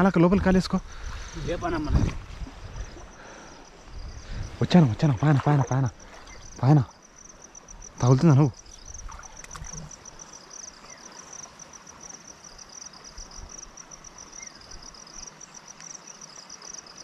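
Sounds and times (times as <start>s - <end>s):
crickets chirping: 0.0s - 17.0s
flowing water hiss: 0.0s - 17.0s
lower-pitched cricket chirping: 0.0s - 17.0s.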